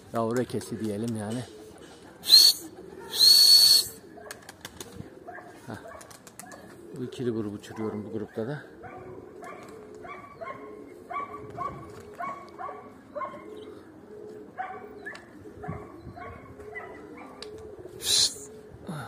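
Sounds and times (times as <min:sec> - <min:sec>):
pigeons cooing: 0:00.1 - 0:19.0.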